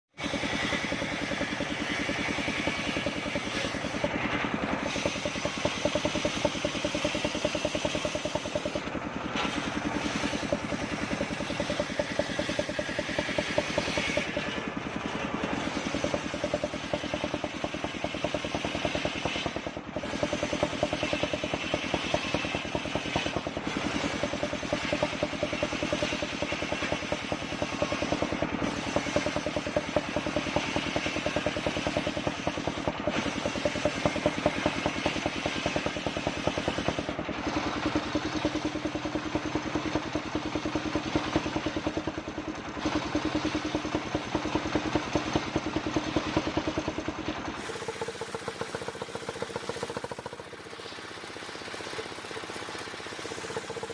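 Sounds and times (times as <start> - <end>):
circular saw running: 0.1 - 53.9.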